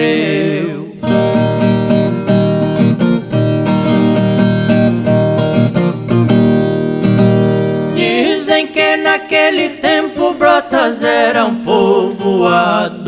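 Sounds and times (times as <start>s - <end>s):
acoustic string instrument strumming: 0.0s - 13.0s.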